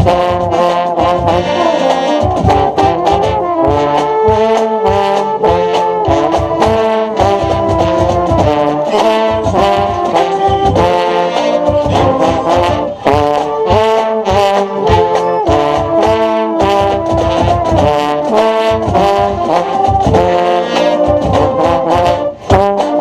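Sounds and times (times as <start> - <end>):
brass playing sustained chords: 0.0 - 23.0
drum hits: 0.0 - 23.0.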